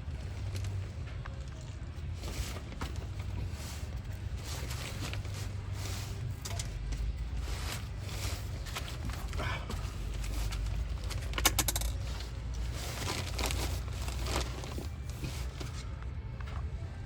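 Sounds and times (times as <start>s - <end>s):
wiring handling rustling: 0.0s - 16.7s.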